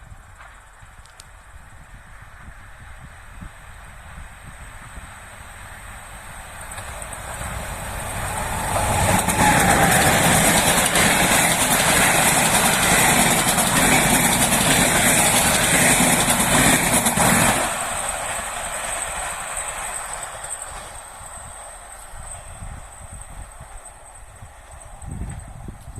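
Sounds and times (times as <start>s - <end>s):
train passing: 0.0s - 25.9s.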